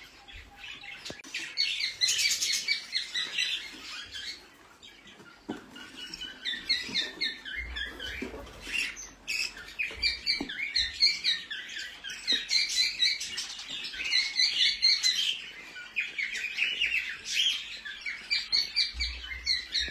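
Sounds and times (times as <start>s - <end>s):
budgerigars chirping and chattering: 0.0s - 19.9s.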